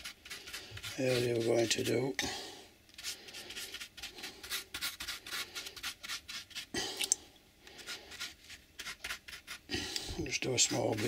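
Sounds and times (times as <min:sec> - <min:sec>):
paintbrush scratchy strokes: 0:00.0 - 0:02.2, 0:03.0 - 0:06.7, 0:07.7 - 0:11.0.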